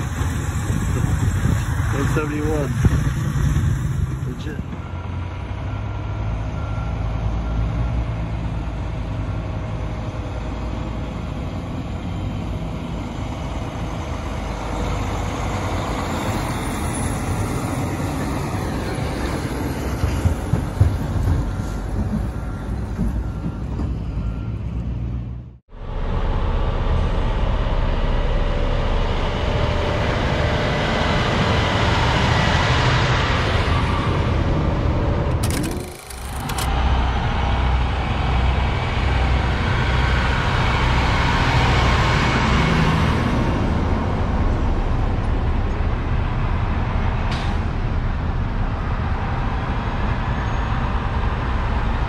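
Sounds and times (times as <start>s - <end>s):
diesel truck engine: 0.0s - 52.0s
tyre and road noise: 0.0s - 52.0s.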